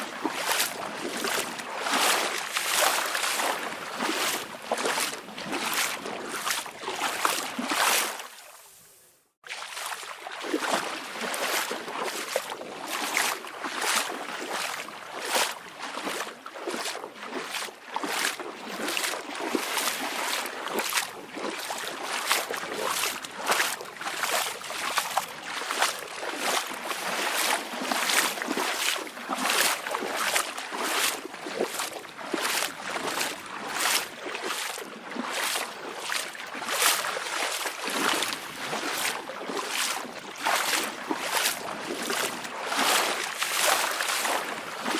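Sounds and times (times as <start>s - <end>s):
small waves lapping: 0.0s - 44.9s.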